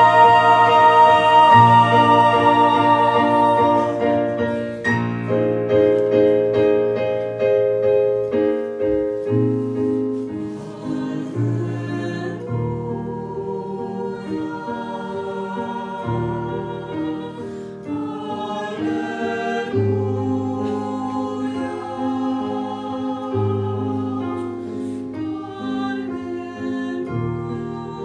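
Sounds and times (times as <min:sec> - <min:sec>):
choir singing: 0:00.0 - 0:05.7, 0:10.2 - 0:28.0
instrumental accompaniment: 0:00.0 - 0:28.0.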